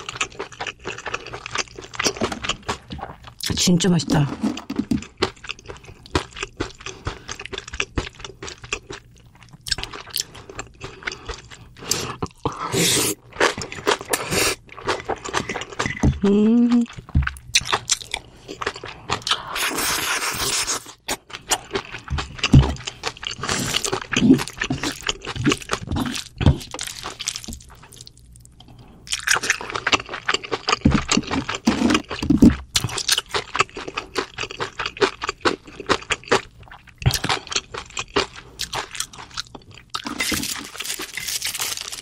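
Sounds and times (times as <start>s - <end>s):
chewing and crunching food: 0.0s - 42.0s.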